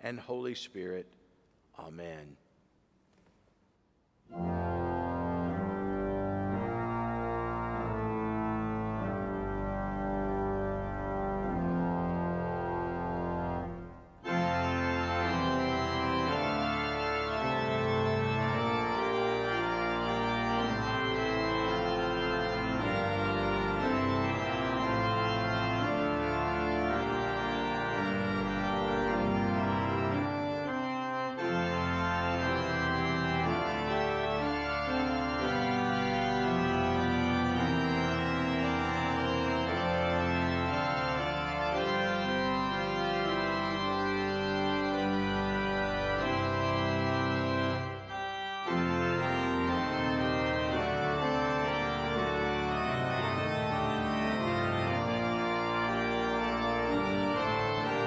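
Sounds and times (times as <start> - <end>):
church organ playing chords: 4.3 - 58.0.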